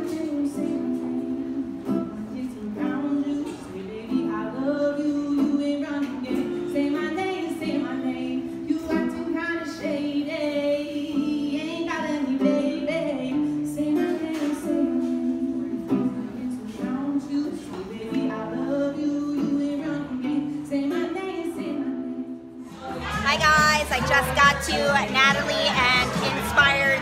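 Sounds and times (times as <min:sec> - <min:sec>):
acoustic guitar: 0:00.0 - 0:27.0
woman singing: 0:00.0 - 0:27.0.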